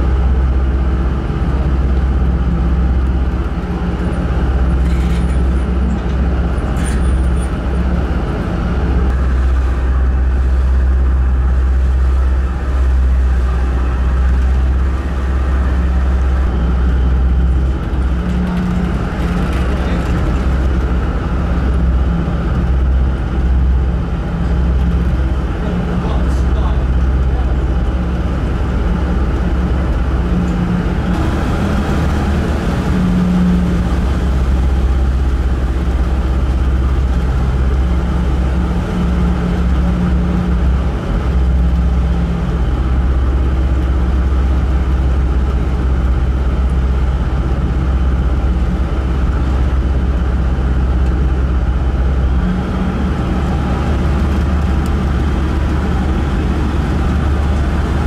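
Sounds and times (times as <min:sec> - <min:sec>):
ship engines rumbling: 0:00.0 - 0:58.0.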